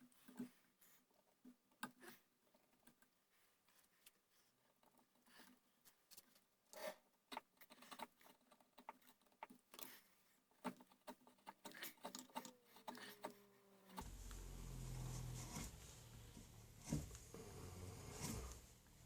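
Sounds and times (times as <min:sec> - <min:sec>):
hand tools ticking and scraping wood: 0:00.0 - 0:18.6.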